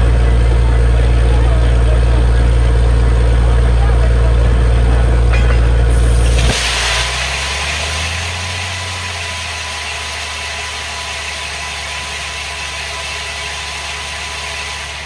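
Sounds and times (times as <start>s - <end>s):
drilling rig engine idling: 0.0s - 15.0s.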